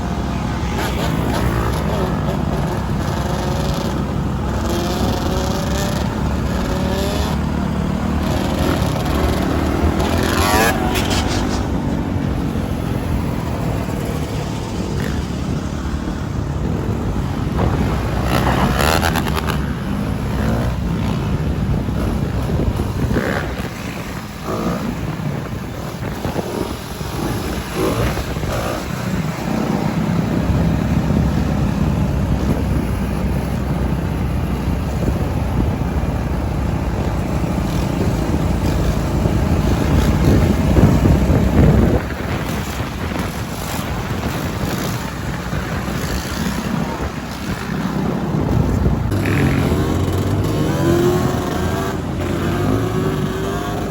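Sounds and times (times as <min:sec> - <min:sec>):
dirt bike engine running: 0:00.0 - 0:53.9
wind buffeting microphone: 0:00.0 - 0:53.9.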